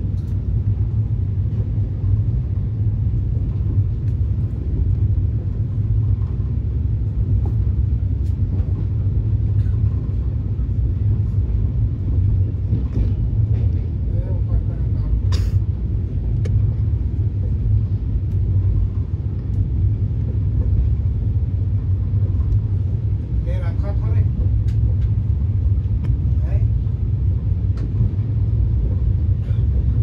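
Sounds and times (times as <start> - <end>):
train rumble on track: 0.0 - 30.0.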